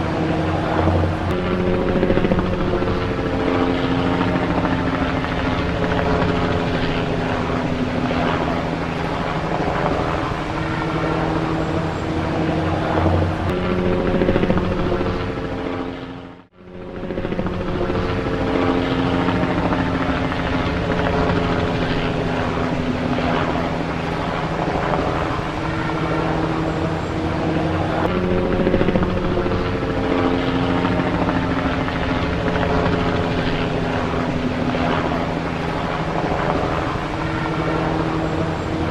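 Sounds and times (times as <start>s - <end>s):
helicopter running: 0.0s - 38.9s.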